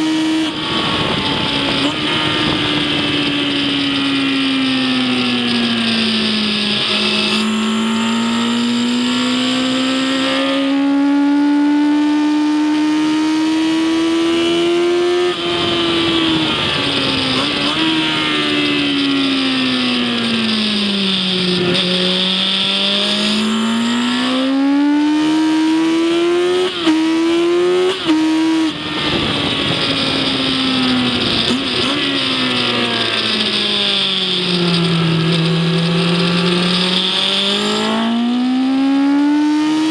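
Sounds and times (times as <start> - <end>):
wind and road noise hiss: 0.0 - 10.7, 13.6 - 24.6, 25.7 - 38.7
racing engine revving: 0.0 - 39.9.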